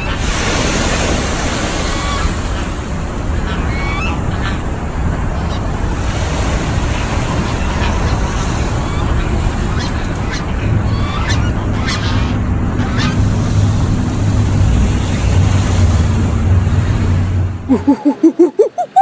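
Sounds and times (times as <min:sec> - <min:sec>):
geese honking: 0:00.0 - 0:18.4
wind and water rumble: 0:00.0 - 0:19.0.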